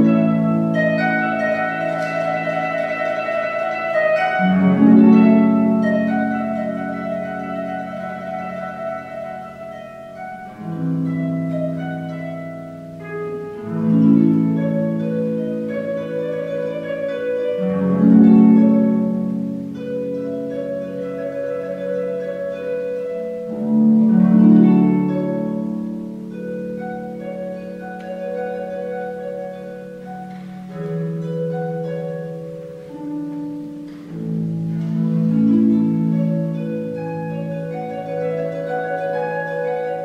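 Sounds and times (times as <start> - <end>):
harp played solo: 0.0 - 40.0.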